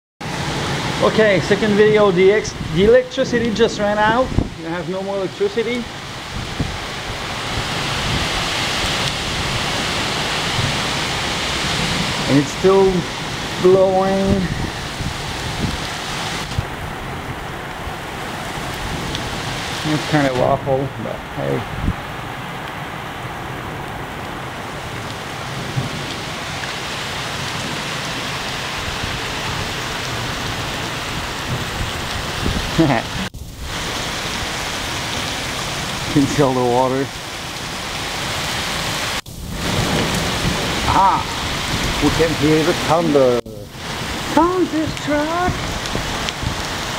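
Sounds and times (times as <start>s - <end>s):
heavy rain: 0.2s - 46.9s
wind rumbling on microphone: 0.2s - 46.9s.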